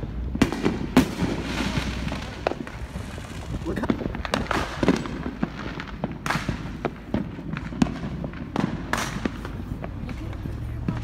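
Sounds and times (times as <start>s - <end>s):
car engine and road rumble: 0.0s - 11.0s
fireworks popping and banging: 0.0s - 11.0s.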